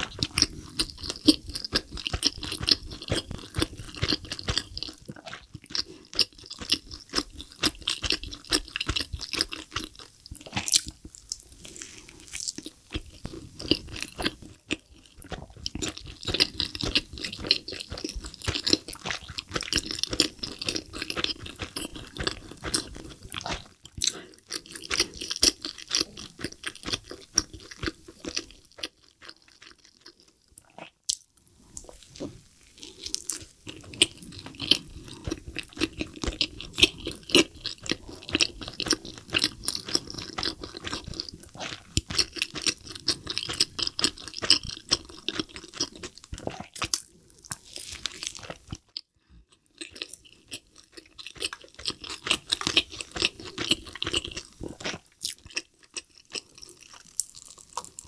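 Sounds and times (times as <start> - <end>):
person chewing with mouth smacks: 0.0 - 58.0.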